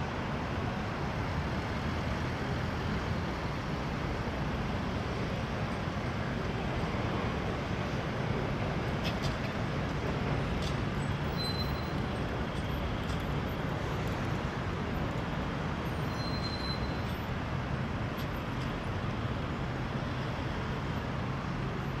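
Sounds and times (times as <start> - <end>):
city road traffic: 0.0 - 22.0.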